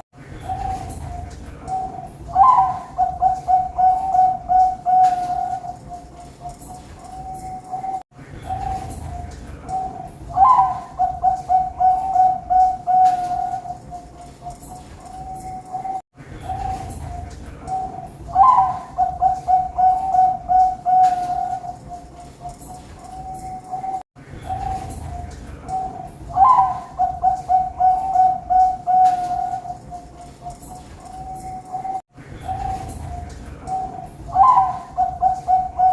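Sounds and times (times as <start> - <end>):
doves cooing: 0.0 - 35.9.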